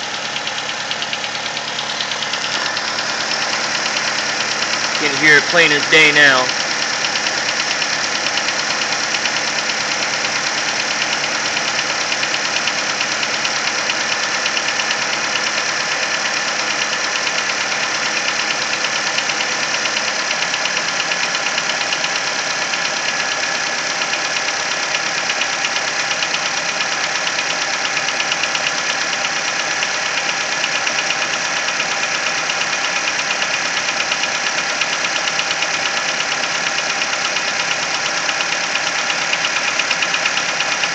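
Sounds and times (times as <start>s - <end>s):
car engine idling: 0.0s - 40.9s
rapid engine tapping: 0.0s - 40.9s.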